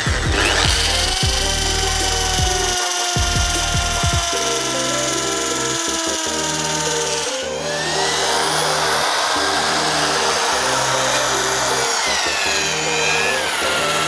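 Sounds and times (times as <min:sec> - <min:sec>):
electric drill grinding into battery: 0:00.0 - 0:14.0.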